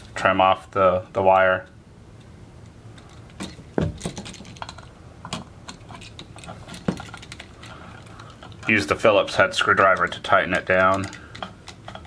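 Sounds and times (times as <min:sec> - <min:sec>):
pliers and wire clicking: 0:02.2 - 0:12.0.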